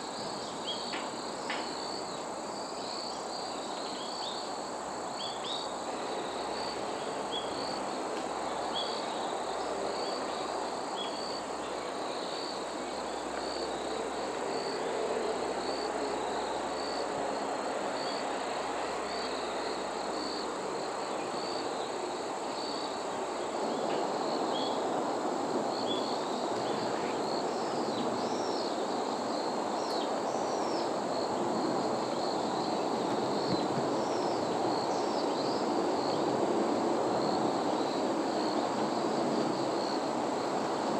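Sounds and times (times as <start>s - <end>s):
high-pitched insect trill: 0.0s - 36.3s
insects chirping: 0.0s - 40.9s
outdoor noise: 0.0s - 40.9s.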